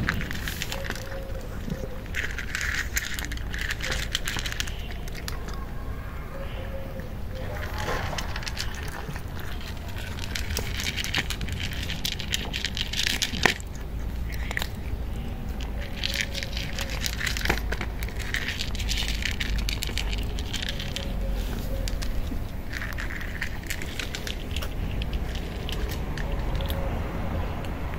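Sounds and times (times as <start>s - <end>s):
cats crunching dry kibble: 0.0s - 27.9s
low steady rumble: 0.0s - 27.9s.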